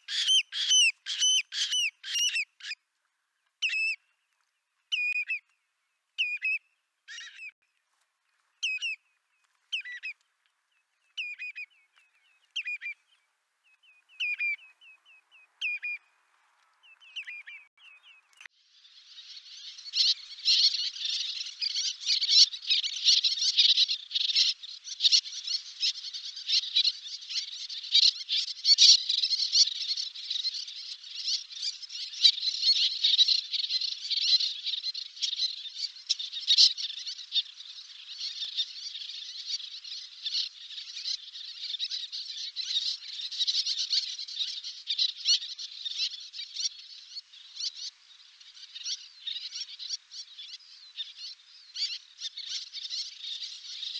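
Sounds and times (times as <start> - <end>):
terns calling: 0.0 - 2.8, 3.6 - 7.6, 8.4 - 53.9.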